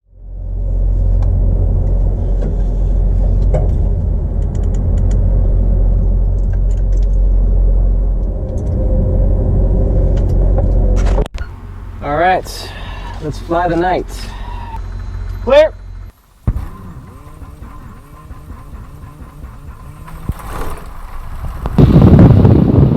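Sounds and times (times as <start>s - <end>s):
engine low rumble: 0.0s - 22.9s.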